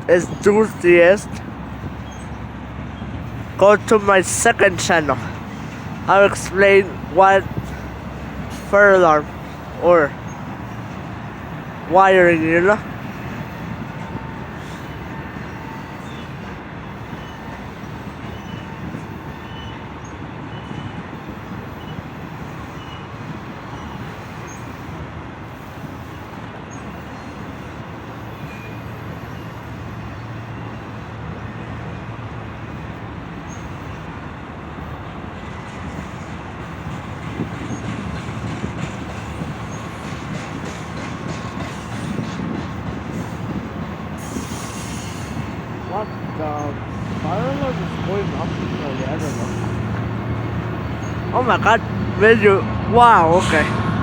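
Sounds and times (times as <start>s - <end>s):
rail noise: 0.0s - 54.0s
train rumbling by: 0.0s - 54.0s.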